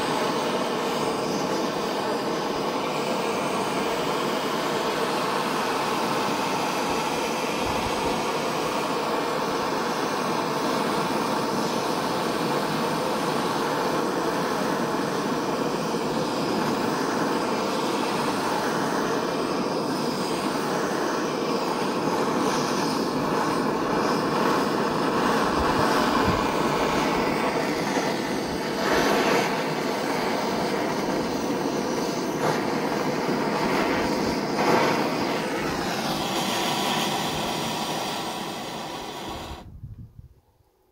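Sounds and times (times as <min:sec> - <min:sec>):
propane torch hissing: 0:00.0 - 0:40.2.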